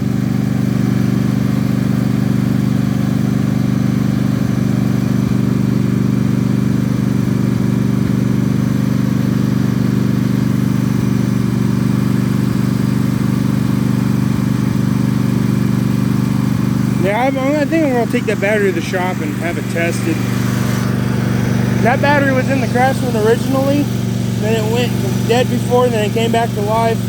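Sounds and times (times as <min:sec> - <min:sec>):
mower engine cranking on starter: 0:00.0 - 0:27.0.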